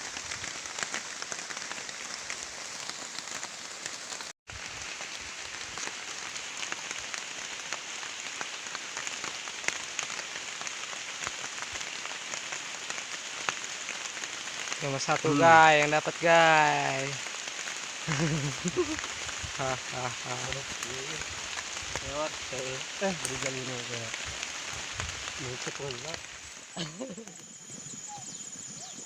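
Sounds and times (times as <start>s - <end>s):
steady rain with ticking drops: 0.0s - 29.0s.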